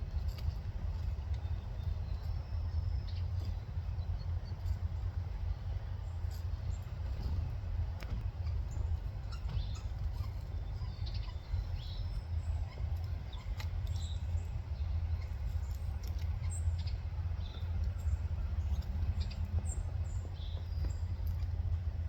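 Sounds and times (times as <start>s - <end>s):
steady low rumble: 0.0s - 22.0s
finches chirping and twittering: 0.2s - 7.6s, 8.2s - 21.6s.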